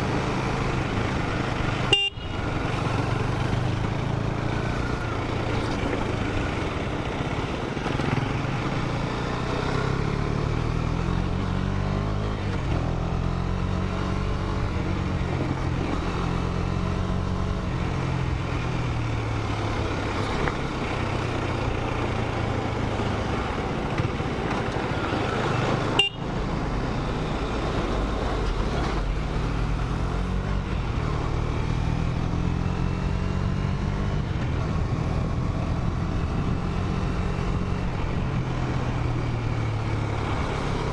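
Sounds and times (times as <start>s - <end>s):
wind and road noise: 0.0s - 40.9s
motorcycle engine accelerating: 2.5s - 40.9s.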